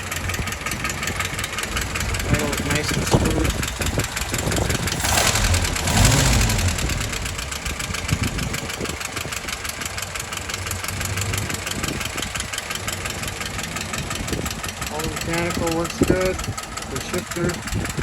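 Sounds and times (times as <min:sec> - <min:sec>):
jeep engine revving and idling: 0:00.0 - 0:18.0.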